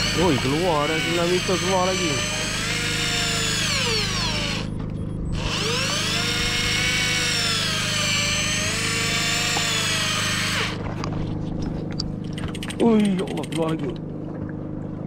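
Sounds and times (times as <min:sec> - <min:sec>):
fishing reel motor whining: 0:00.0 - 0:11.2, 0:12.0 - 0:14.0
low engine hum: 0:00.0 - 0:15.0.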